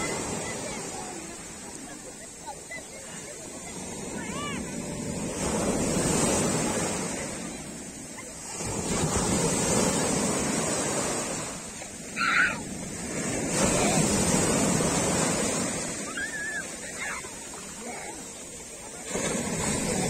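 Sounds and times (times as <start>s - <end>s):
surf washing up a beach: 0.0s - 20.0s.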